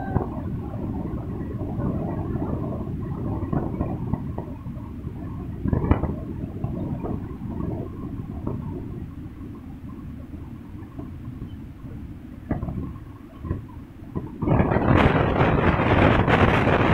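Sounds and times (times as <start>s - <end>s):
train coach rumble: 0.0s - 16.9s.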